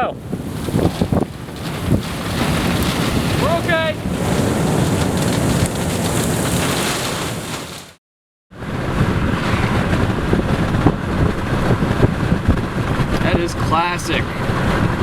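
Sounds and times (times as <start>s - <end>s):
wind buffeting microphone: 0.0s - 8.0s, 8.6s - 15.0s.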